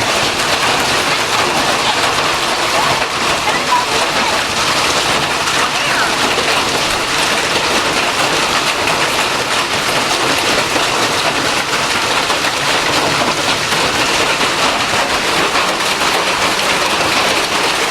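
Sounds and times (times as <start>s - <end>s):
hail and rain pelting: 0.0s - 17.9s.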